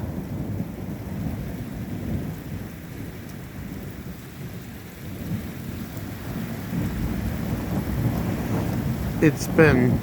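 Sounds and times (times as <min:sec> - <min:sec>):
rain falling: 0:00.0 - 0:10.0
thunder rumbling: 0:00.0 - 0:10.0.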